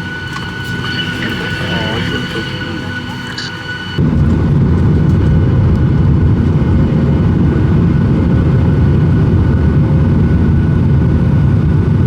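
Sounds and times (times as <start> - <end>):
faint steady hum: 0.0 - 11.2
airliner cabin engine rumble: 0.0 - 12.0.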